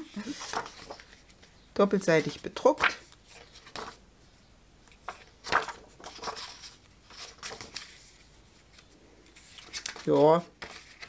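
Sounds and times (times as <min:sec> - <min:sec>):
paper pages turning: 0:00.1 - 0:01.5, 0:02.2 - 0:04.0, 0:04.9 - 0:11.0.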